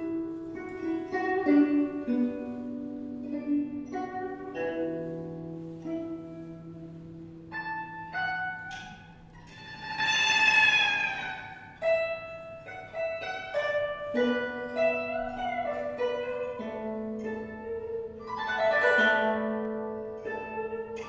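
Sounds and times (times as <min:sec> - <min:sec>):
plucked zither notes: 0:00.0 - 0:21.0.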